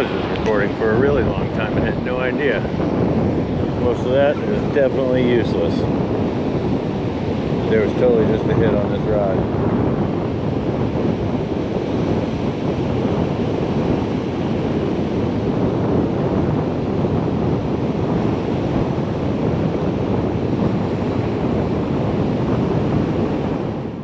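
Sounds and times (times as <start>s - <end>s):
ocean surf breaking on beach: 0.0s - 24.0s
wind noise on microphone: 0.0s - 24.0s.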